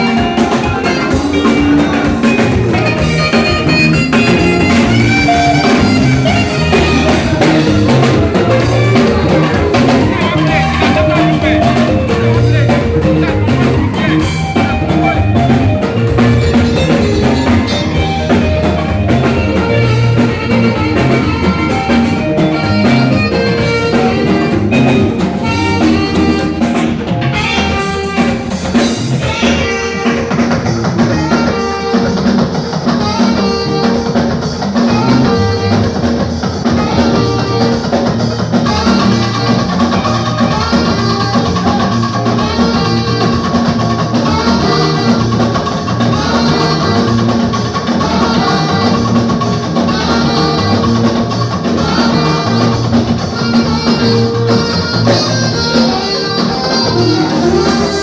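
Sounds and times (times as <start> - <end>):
drum kit rimshots: 0.0 - 58.0
live band playing: 0.0 - 58.0
saxophone: 0.0 - 58.0.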